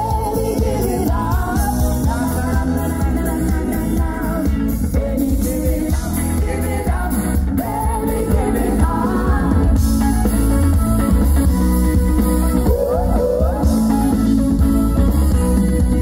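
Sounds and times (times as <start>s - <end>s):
vocalists singing: 0.0s - 10.7s, 12.6s - 16.0s
live pop band playing: 0.0s - 16.0s.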